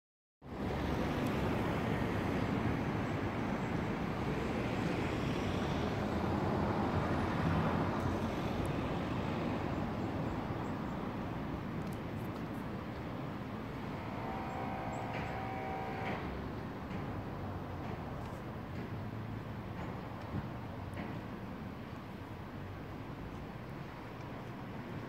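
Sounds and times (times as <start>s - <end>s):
road traffic rumble: 0.4s - 25.0s.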